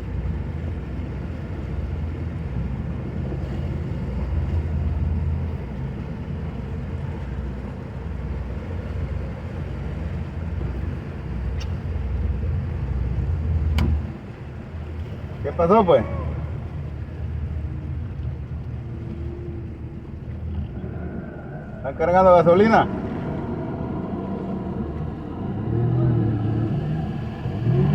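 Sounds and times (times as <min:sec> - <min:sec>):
boat engine rumbling: 0:00.0 - 0:27.9.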